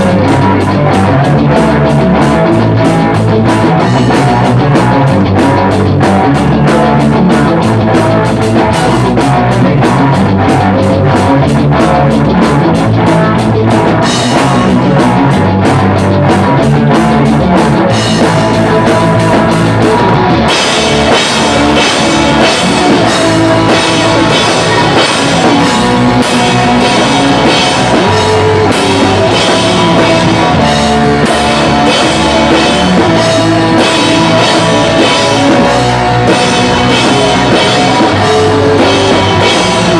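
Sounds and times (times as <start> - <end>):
drums driving beat: 0.0 - 39.9
pop-punk band playing: 0.0 - 39.9.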